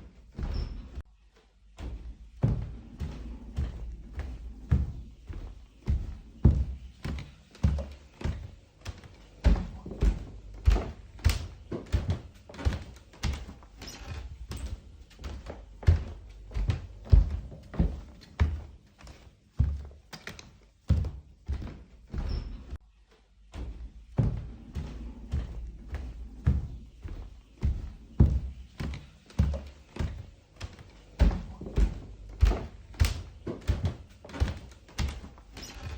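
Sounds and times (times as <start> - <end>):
dull thudding footsteps: 0.0 - 1.1, 1.8 - 22.8, 23.5 - 35.9.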